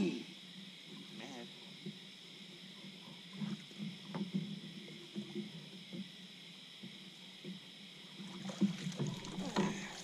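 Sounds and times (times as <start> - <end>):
high-pitched hiss: 0.0 - 10.0
knocks and rustling in a boat: 0.6 - 10.0.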